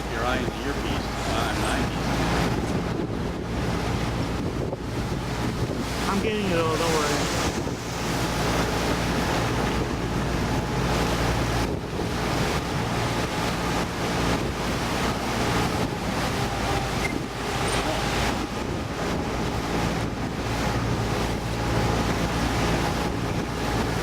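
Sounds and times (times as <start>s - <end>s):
motorboat engine running: 0.0s - 24.0s
water rushing past hull: 0.0s - 24.0s
wind buffeting microphone: 0.0s - 24.0s.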